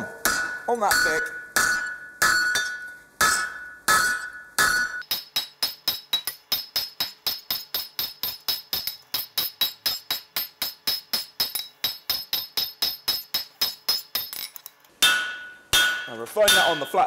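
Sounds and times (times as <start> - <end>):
hammer ringing on anvil: 0.2 - 14.4, 15.0 - 17.0.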